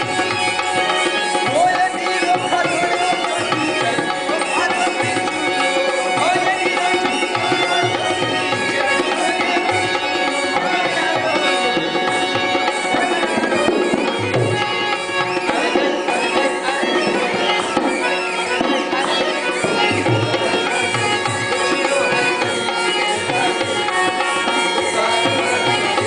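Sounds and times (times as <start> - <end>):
wavering melody: 0.0 - 26.0.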